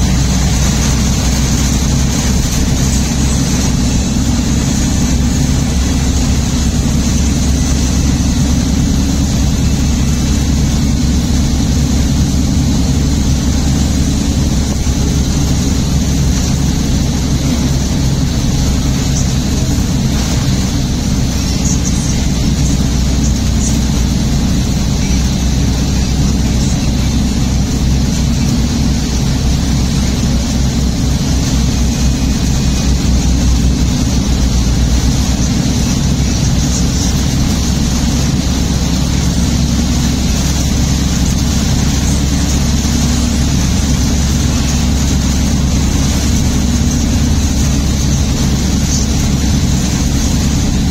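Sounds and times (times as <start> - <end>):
engine and tyre rumble: 0.0 - 50.9
hiss of wet road and rain: 0.0 - 50.9.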